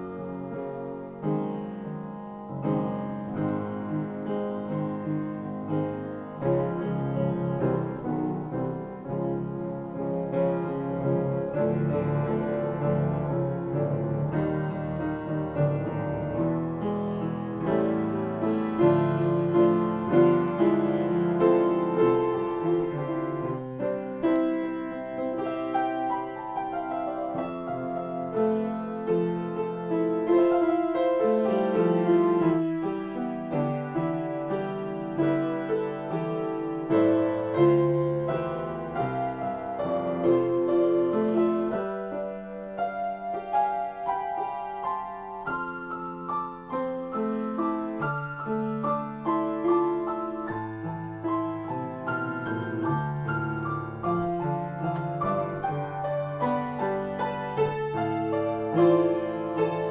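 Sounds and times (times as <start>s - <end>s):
piano playing: 0.0s - 59.9s.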